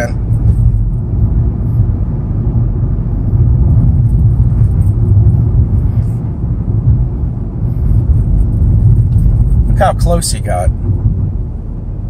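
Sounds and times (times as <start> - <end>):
vehicle rumble inside car: 0.0 - 12.0.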